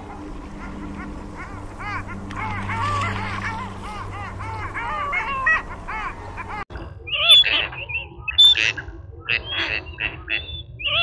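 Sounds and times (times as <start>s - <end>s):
high sharp bird calls: 0.0s - 11.0s
waterbirds calling in chorus: 0.0s - 11.0s.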